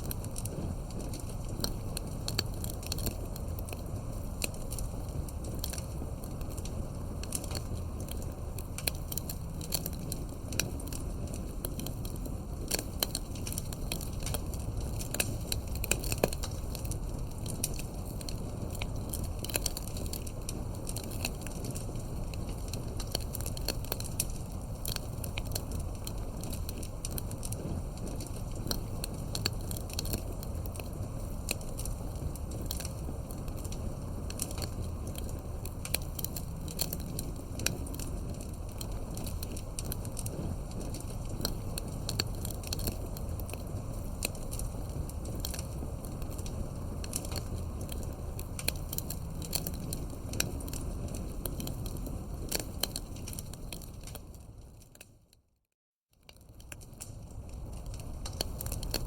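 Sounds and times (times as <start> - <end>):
campfire crackling and popping: 0.0 - 55.2, 56.2 - 59.0
low rumble of flames: 0.0 - 55.4, 56.2 - 59.0.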